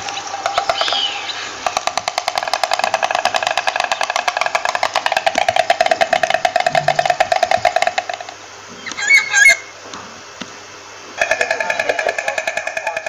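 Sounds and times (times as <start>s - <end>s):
stork clattering its bill: 0.0s - 9.6s, 11.2s - 13.0s
wavering bird call: 0.0s - 9.8s, 11.2s - 13.0s.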